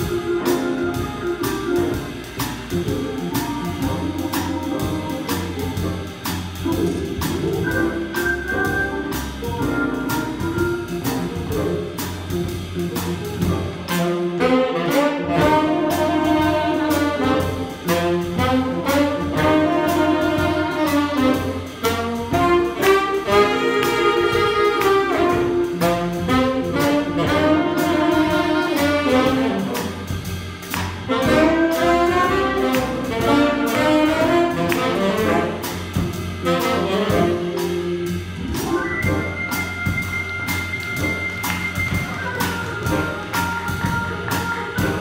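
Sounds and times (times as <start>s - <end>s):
saxophones playing melody: 0.0s - 12.0s, 12.6s - 45.0s
drums with cymbal beat: 0.0s - 45.0s
electric keyboard: 0.0s - 45.0s
upright bass: 0.0s - 45.0s.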